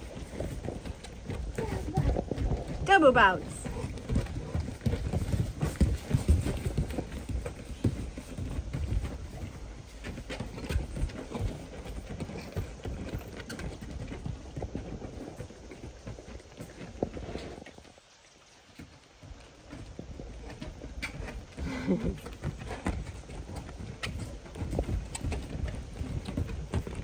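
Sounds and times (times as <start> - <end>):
dog paws thudding on trampoline: 0.0 - 18.0, 18.8 - 27.0.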